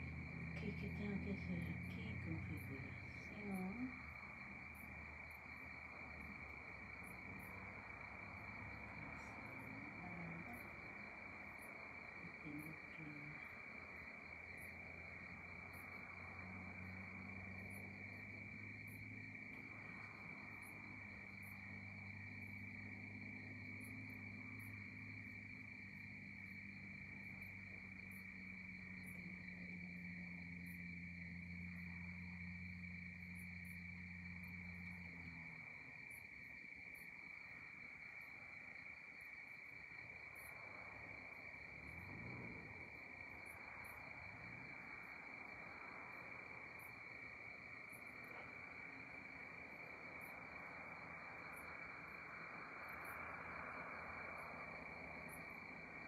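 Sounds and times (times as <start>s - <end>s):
crickets trilling: 0.0s - 56.0s
faint low hum: 0.0s - 56.0s.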